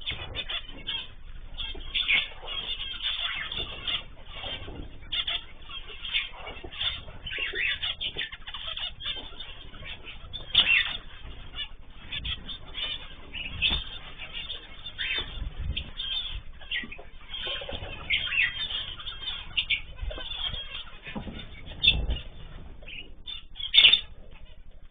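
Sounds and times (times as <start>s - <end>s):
cage birds chirping and calling: 0.0s - 24.9s.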